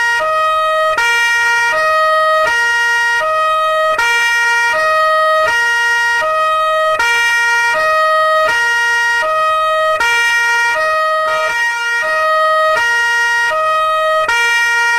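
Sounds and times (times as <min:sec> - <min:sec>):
two-tone police siren: 0:00.0 - 0:14.9.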